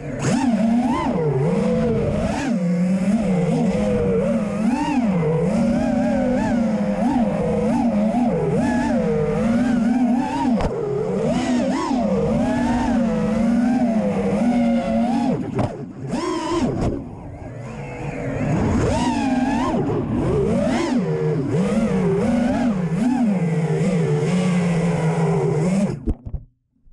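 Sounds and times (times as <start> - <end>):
quadcopter motors whining: 0.0 - 26.2.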